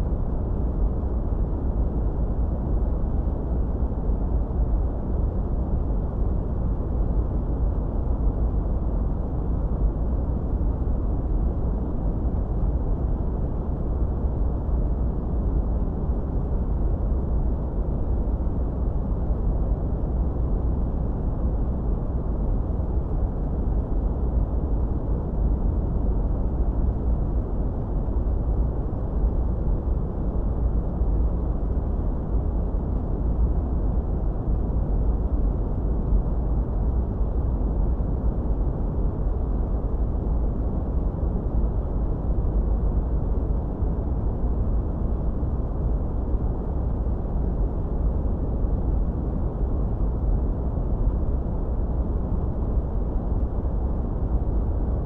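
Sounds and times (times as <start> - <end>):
low white noise rumble: 0.0 - 55.0.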